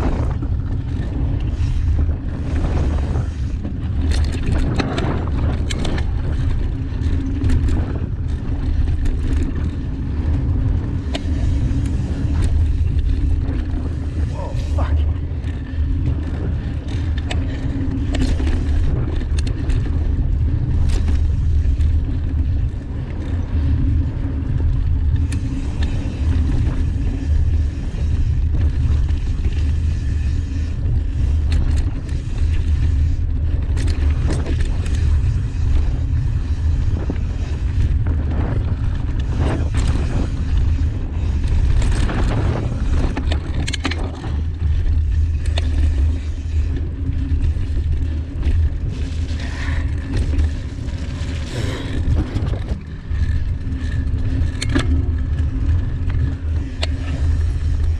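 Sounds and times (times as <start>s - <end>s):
bike rattling over bumps: 0.0s - 57.9s
tyres rolling over dirt: 0.0s - 57.9s
wind on microphone: 0.0s - 57.9s.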